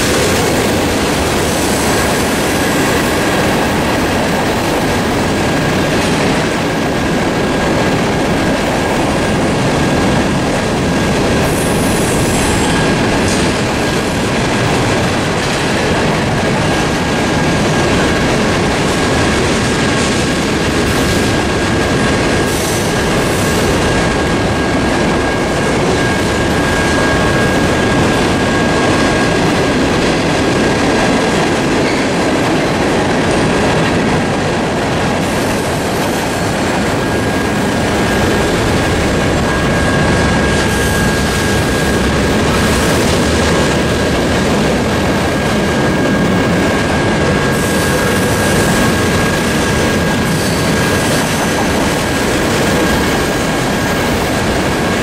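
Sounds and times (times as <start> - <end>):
freight train cars rumbling: 0.0 - 55.0.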